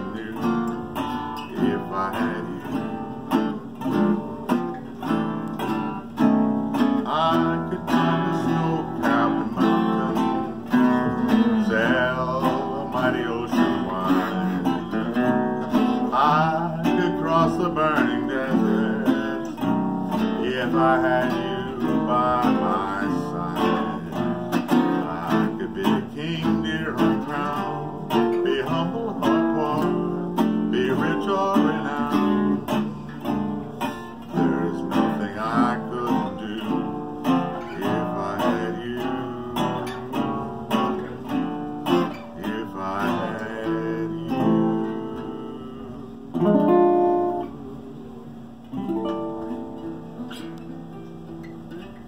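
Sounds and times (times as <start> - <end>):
acoustic jazz guitar: 0.0 - 52.0
resonator guitar: 0.0 - 52.0.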